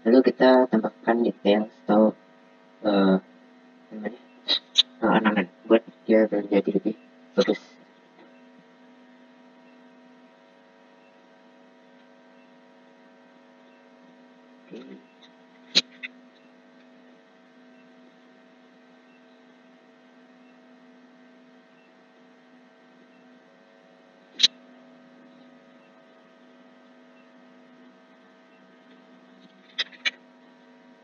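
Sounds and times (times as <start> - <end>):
faint mains hum: 0.0 - 31.0.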